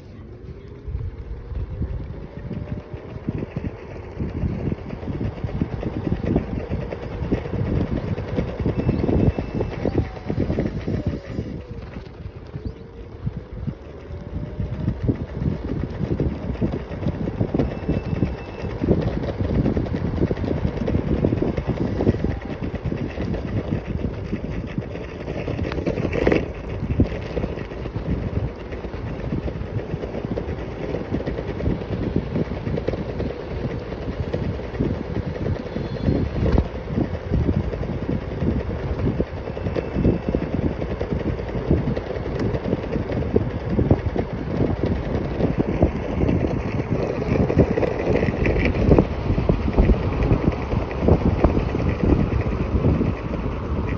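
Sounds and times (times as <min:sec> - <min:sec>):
scooter wheels rolling on asphalt: 0:00.0 - 0:53.9
wind buffeting microphone: 0:00.0 - 0:53.9.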